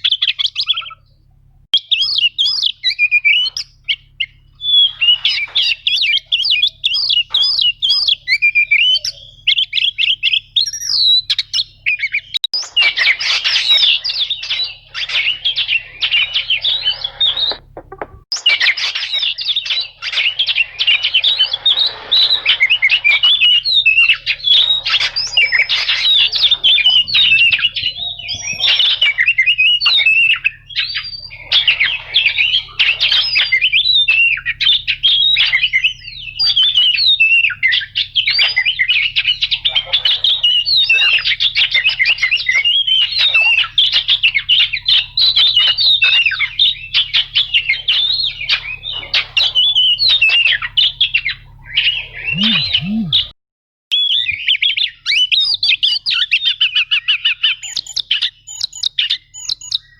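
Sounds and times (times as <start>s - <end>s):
bird singing chattering trills: 1.8s - 53.3s.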